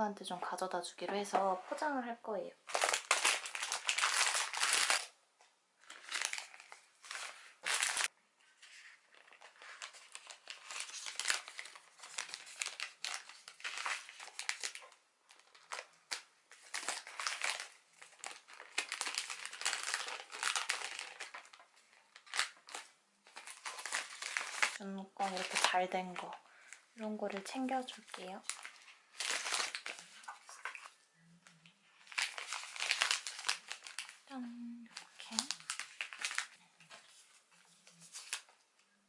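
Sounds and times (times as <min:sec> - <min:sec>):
plastic bags crinkling: 0:02.6 - 0:05.1, 0:05.8 - 0:08.1, 0:09.0 - 0:31.0, 0:31.9 - 0:38.6.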